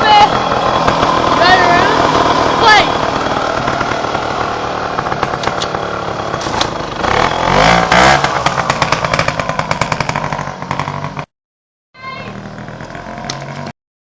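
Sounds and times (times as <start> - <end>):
two-stroke engine revving and idling: 0.0 - 11.3, 12.0 - 13.8.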